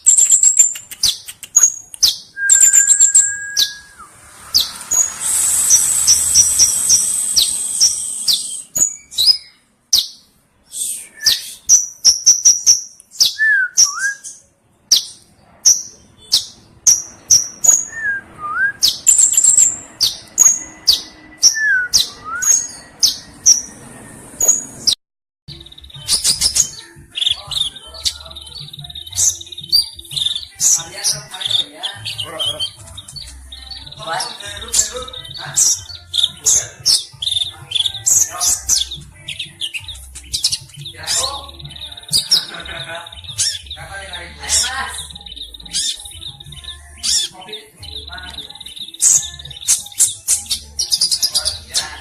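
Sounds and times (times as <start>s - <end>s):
sunbird singing high chirps: 0.0s - 52.0s.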